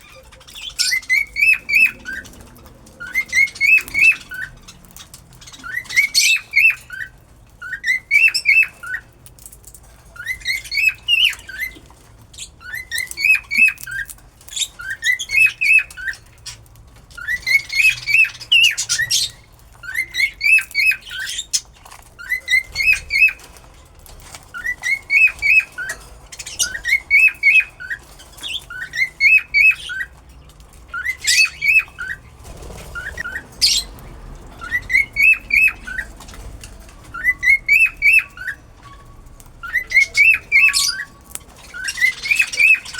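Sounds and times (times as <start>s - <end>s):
cockatiel chirping: 0.0s - 2.4s, 3.0s - 9.5s, 10.2s - 16.6s, 17.2s - 23.6s, 24.5s - 33.9s, 34.6s - 42.9s.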